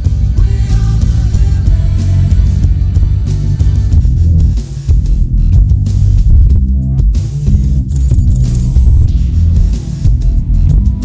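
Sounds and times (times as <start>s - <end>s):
rock music with bass and guitar: 0.0s - 11.0s.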